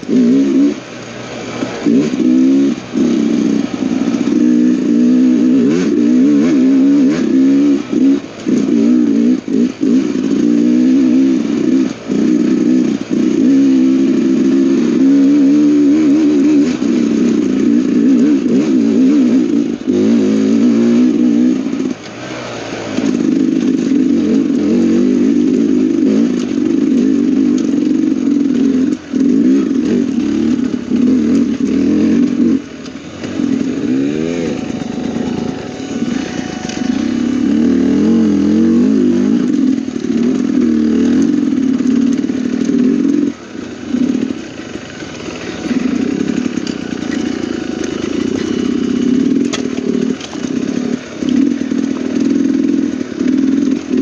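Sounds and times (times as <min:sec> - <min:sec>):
dirt bike engine under load: 0:00.0 - 0:52.4.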